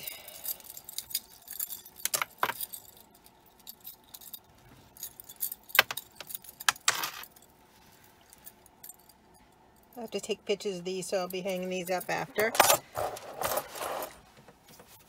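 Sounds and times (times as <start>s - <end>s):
metal jewelry clinking: 0.0s - 14.2s.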